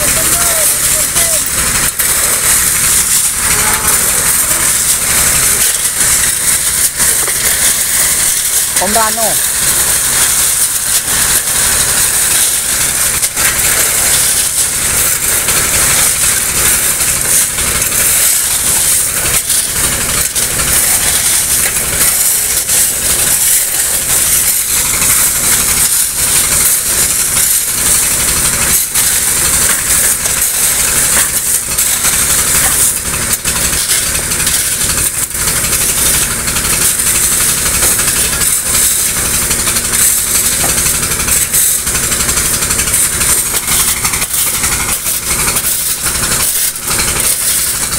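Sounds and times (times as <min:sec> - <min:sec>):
machine engine running: 0:00.0 - 0:47.9
shovels scraping through gravel: 0:00.0 - 0:47.9
wet gravel and water pouring: 0:00.0 - 0:47.9.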